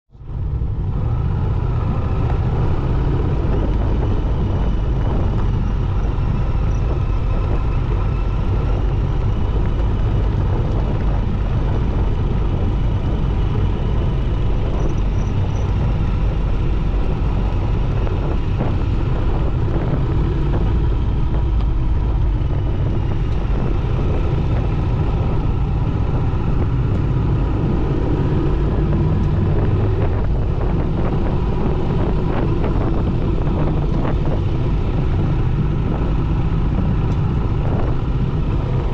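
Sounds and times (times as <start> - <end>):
motorcycle engine running: 0.2 - 38.9
wind buffeting microphone: 0.2 - 38.9.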